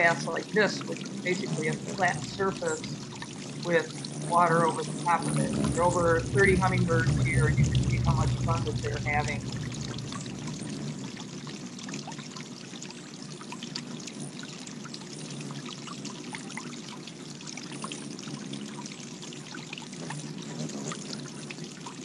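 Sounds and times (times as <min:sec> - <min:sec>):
water bubbling and trickling: 0:00.0 - 0:22.0.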